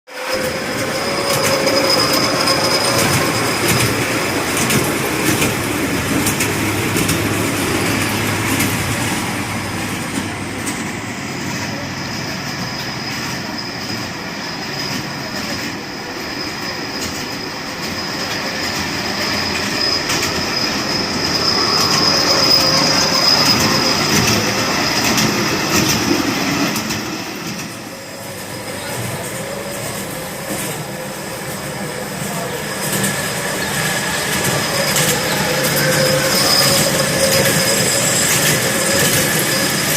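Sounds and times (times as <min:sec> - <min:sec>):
ride train wheels squealing on rail: 0:00.1 - 0:39.9.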